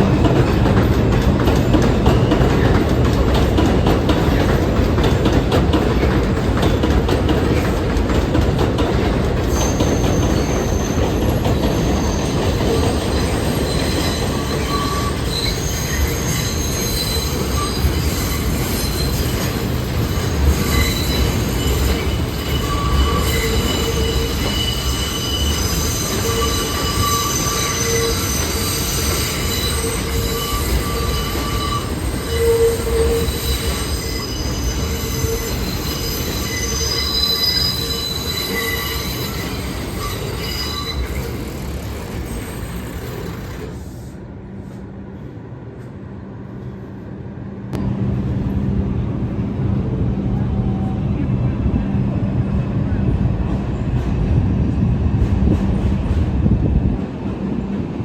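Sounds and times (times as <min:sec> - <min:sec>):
train wheels squealing on rails: 0:00.0 - 0:48.6
train rumble: 0:00.0 - 0:58.0.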